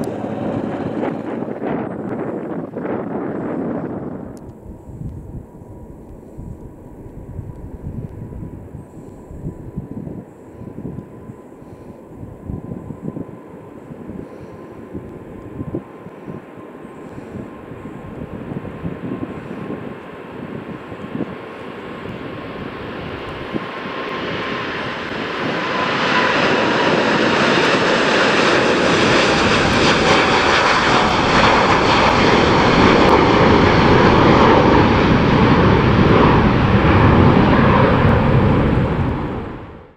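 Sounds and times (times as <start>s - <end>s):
jet roar at takeoff: 0.0s - 39.9s.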